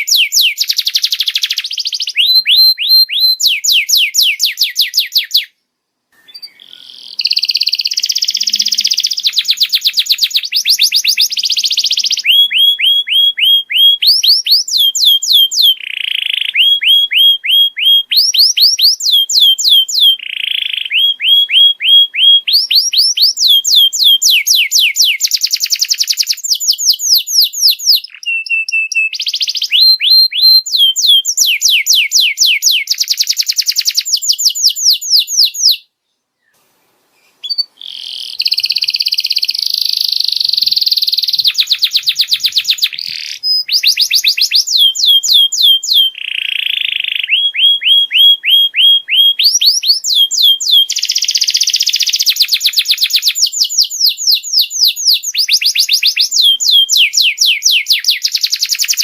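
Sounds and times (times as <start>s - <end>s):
canary singing trills: 0.0s - 5.6s, 6.2s - 36.6s, 37.2s - 59.0s.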